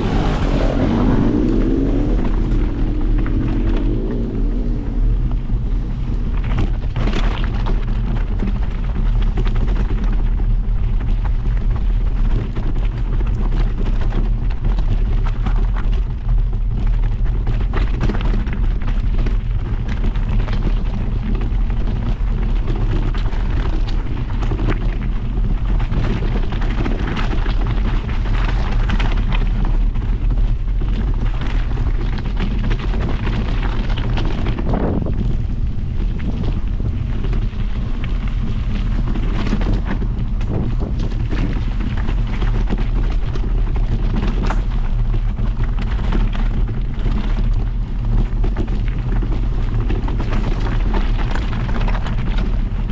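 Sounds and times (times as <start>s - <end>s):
wind buffeting on microphone: 0.0s - 52.9s.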